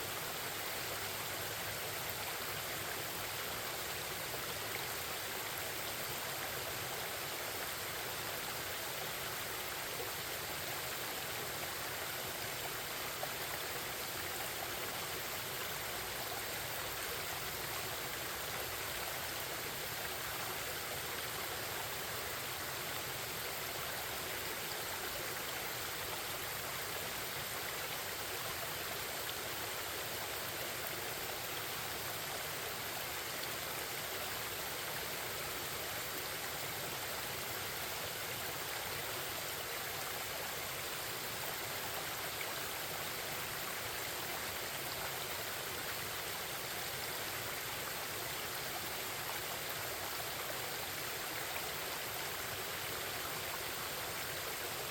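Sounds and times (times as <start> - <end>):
stream water babbling: 0.0 - 54.9.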